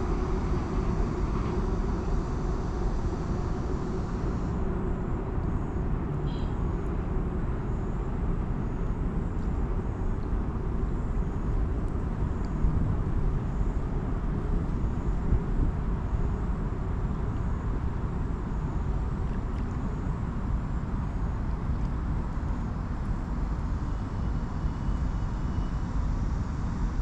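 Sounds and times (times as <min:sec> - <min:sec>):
low rumble of vehicle traffic: 0:00.0 - 0:27.0.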